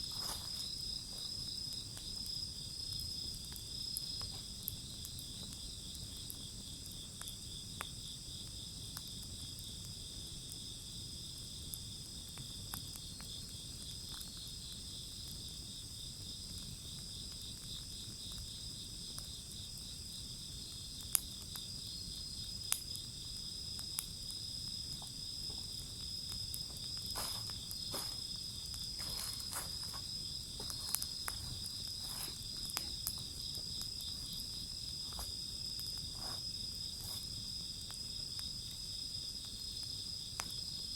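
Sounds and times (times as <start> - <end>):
insects trilling: 0.0 - 40.9
wood fire crackling: 0.0 - 40.9.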